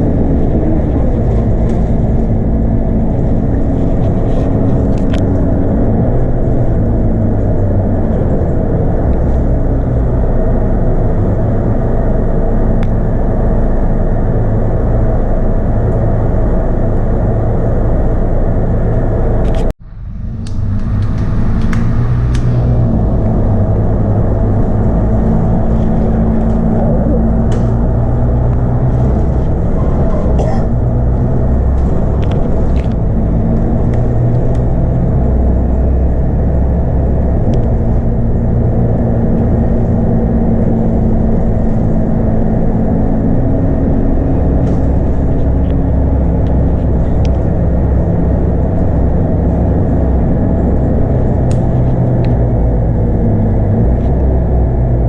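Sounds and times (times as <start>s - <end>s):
diesel bus engine running: 0.0s - 55.0s
road and cabin noise: 0.0s - 55.0s.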